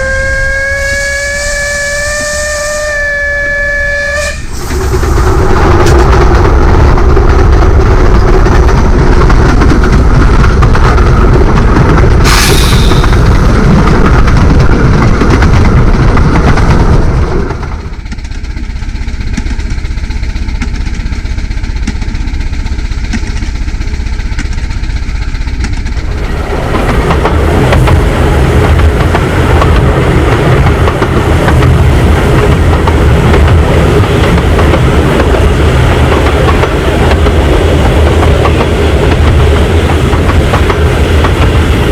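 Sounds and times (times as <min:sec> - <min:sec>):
miniature train running on rails: 0:00.0 - 0:41.9
wheels clacking over rail joints: 0:04.6 - 0:41.9.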